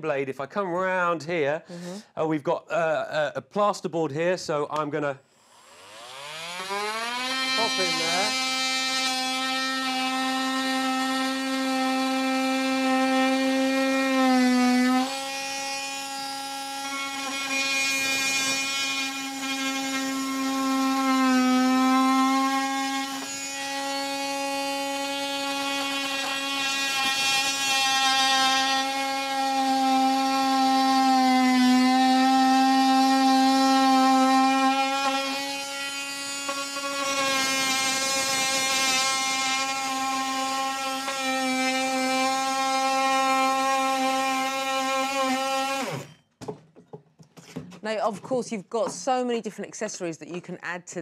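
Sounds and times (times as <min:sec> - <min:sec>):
oscillating multi-tool cutting plasterboard: 0:05.3 - 0:49.1.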